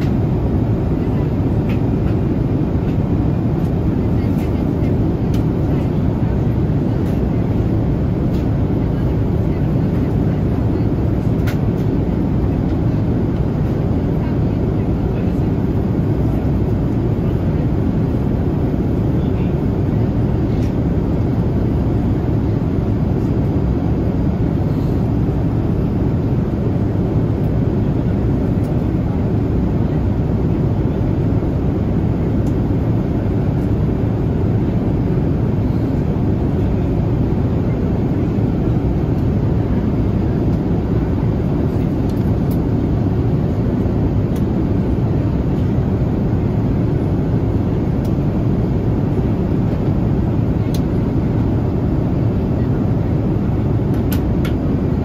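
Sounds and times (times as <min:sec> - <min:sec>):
airliner cabin noise: 0:00.0 - 0:55.0.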